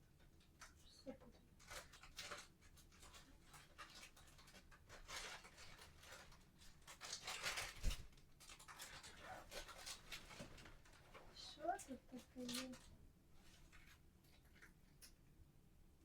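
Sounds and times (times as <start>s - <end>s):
rustling of small items: 0.0s - 15.3s.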